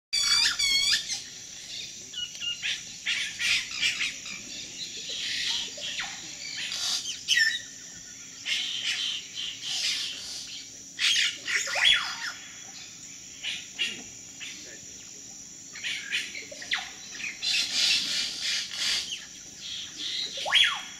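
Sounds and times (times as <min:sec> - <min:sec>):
birds chirping and whistling: 0:00.2 - 0:14.6, 0:15.8 - 0:20.9
high insect buzz: 0:00.2 - 0:20.9.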